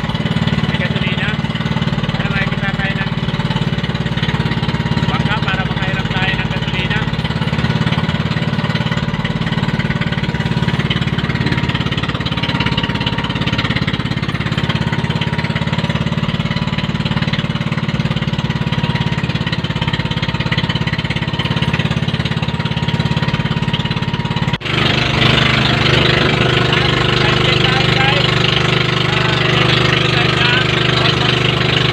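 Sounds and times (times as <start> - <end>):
boat engine chugging: 0.0 - 31.9.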